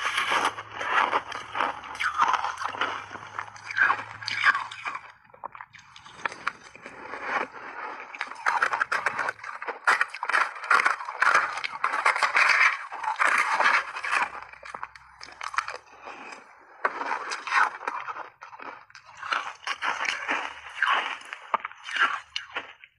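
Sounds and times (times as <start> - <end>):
crunchy ice being chewed: 0.0 - 22.9.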